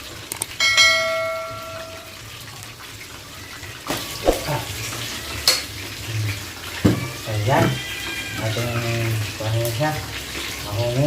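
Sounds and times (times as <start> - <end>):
oil sizzling: 0.0 - 11.0.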